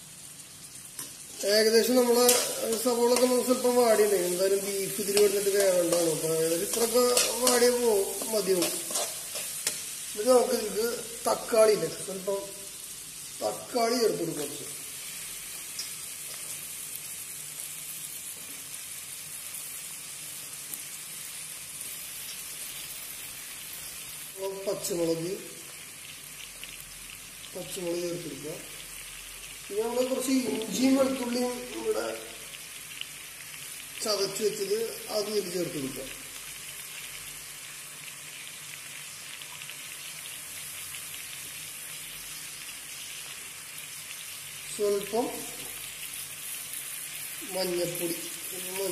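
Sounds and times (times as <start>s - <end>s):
food sizzling in oil: 0.0s - 48.9s.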